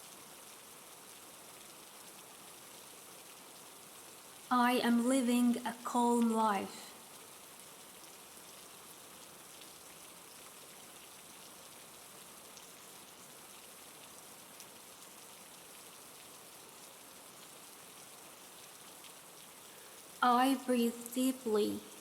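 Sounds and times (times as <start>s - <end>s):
faint rain falling: 0.0s - 22.0s.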